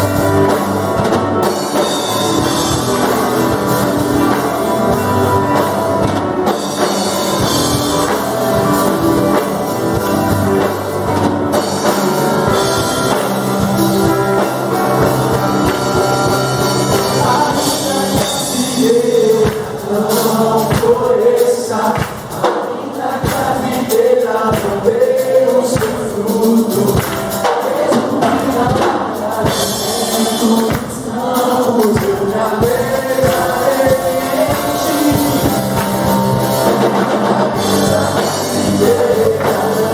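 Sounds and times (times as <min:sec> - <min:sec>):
gospel band playing: 0:00.0 - 0:39.9
voices singing: 0:00.0 - 0:39.9.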